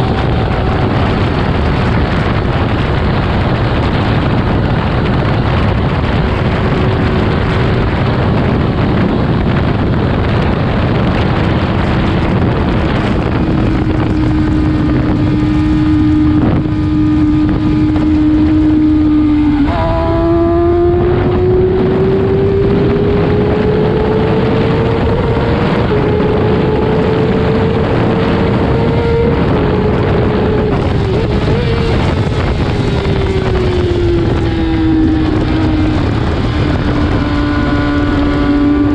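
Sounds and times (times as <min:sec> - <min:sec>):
heavy wind noise: 0:00.0 - 0:38.9
motorcycle engine at speed: 0:00.0 - 0:38.9.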